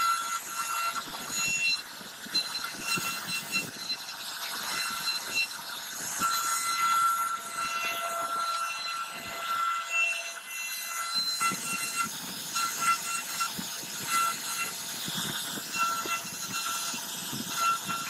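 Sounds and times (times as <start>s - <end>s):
cnc router spindle whine: 0.0s - 18.0s.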